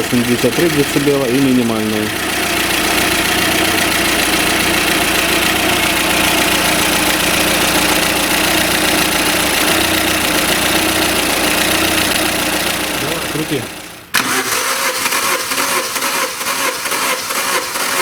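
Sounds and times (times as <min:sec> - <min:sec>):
petrol engine idling: 0:00.0 - 0:18.0.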